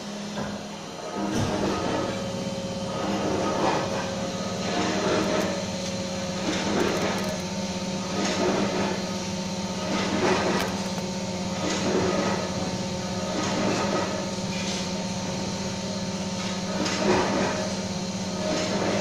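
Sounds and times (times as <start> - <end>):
injection molding machine humming: 0.0 - 19.0.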